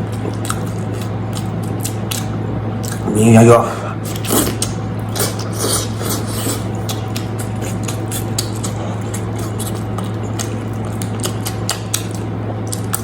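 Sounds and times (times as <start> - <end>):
person chewing meat: 0.0 - 3.2, 3.8 - 13.0
steady low hum: 0.0 - 13.0.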